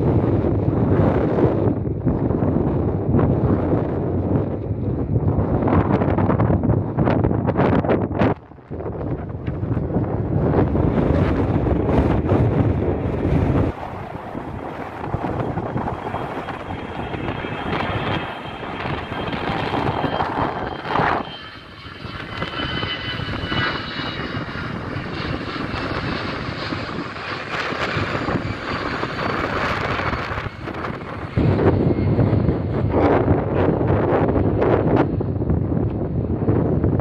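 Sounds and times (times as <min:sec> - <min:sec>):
jet airliner passing overhead: 0:00.0 - 0:37.0
jet engine fan whine: 0:00.0 - 0:37.0.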